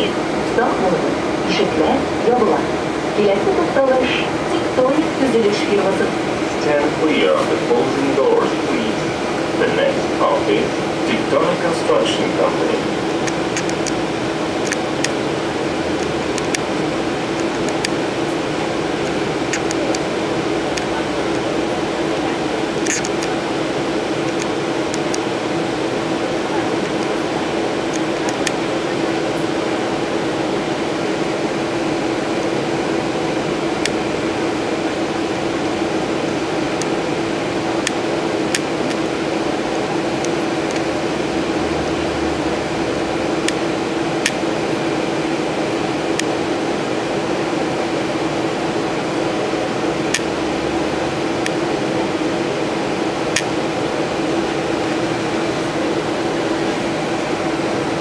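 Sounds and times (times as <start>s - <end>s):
electrical hum and blowers: 0.0s - 58.0s.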